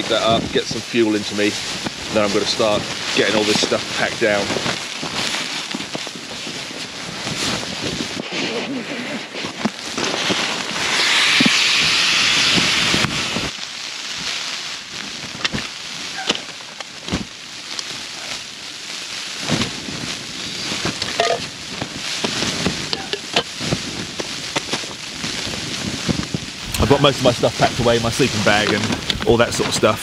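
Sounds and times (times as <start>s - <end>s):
nylon sacks rustling: 0.0s - 11.6s, 15.0s - 17.4s, 19.4s - 29.9s
strong hiss: 0.0s - 30.0s.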